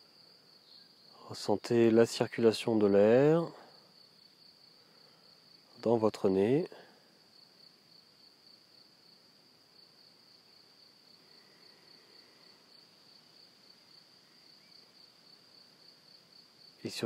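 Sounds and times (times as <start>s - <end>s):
cricket trilling: 0.0s - 17.0s.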